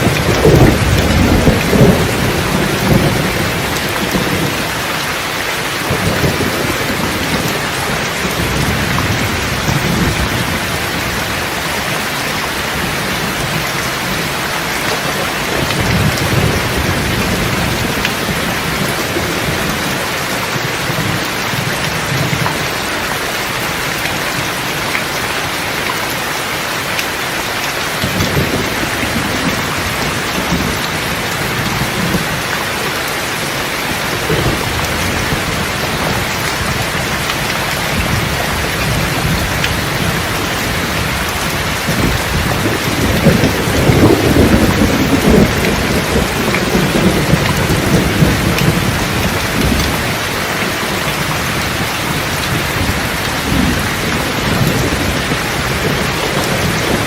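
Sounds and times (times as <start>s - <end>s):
thunder rumbling: 0.0s - 25.8s, 27.2s - 57.0s
steady rain: 0.0s - 57.0s.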